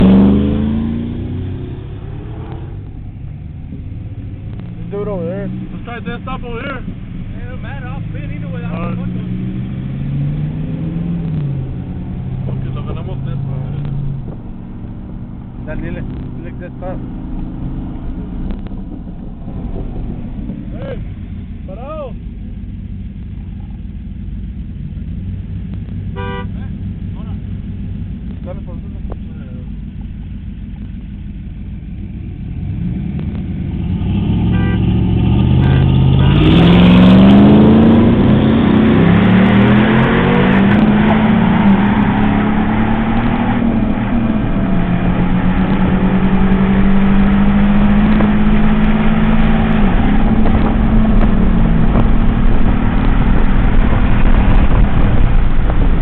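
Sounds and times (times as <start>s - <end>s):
truck engines accelerating hard: 0.0s - 56.0s.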